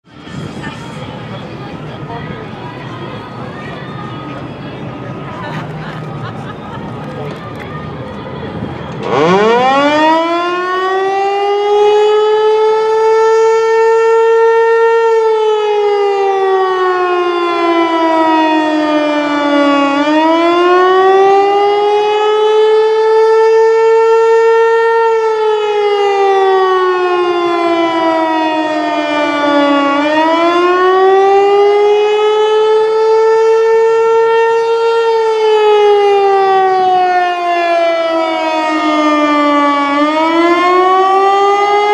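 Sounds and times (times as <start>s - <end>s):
warning siren wailing: 6.5s - 41.9s.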